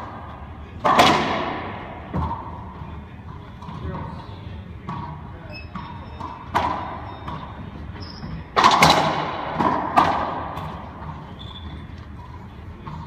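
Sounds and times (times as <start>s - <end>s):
racquetball hits echoing in court: 0.8s - 4.1s, 4.8s - 13.0s.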